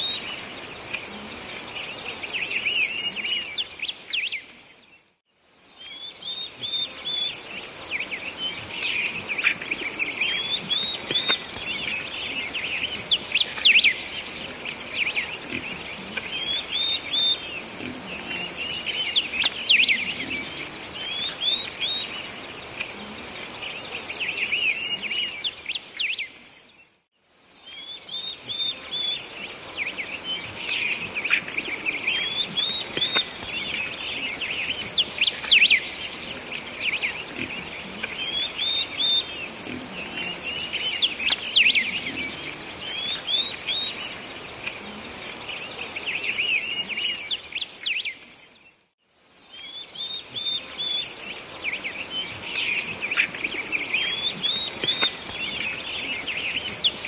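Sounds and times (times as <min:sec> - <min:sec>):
songbirds chirping and trilling: 0:00.0 - 0:57.0
steady high hiss: 0:00.0 - 0:57.0.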